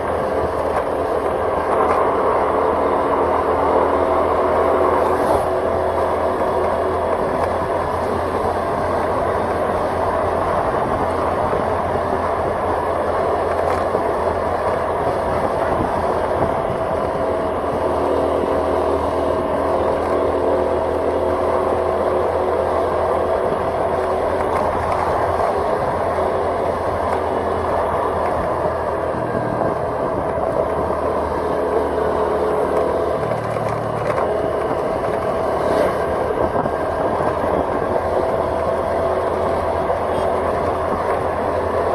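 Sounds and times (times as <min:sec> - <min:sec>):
vehicle engine and road noise: 0:00.0 - 0:41.9.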